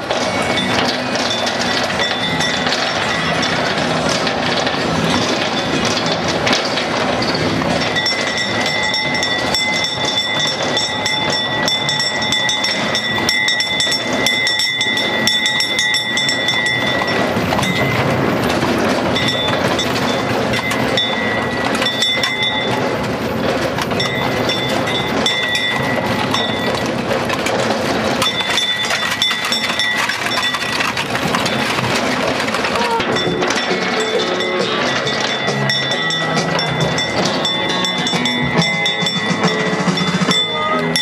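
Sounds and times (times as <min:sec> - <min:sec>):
wagon wheels rattling: 0:00.0 - 0:41.0.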